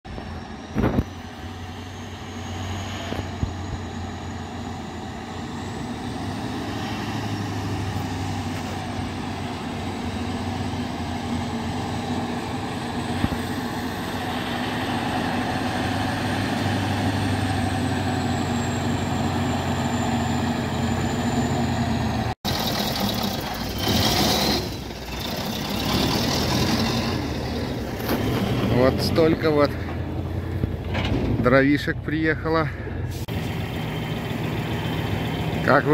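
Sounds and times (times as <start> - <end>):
truck diesel engine at low revs: 0.1 - 35.9.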